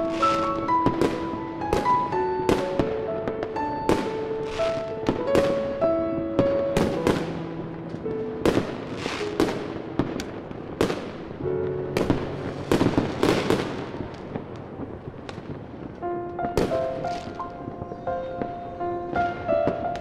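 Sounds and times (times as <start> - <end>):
background music with held notes: 0.0 - 14.1, 16.0 - 20.0
fireworks bangs: 0.0 - 20.0.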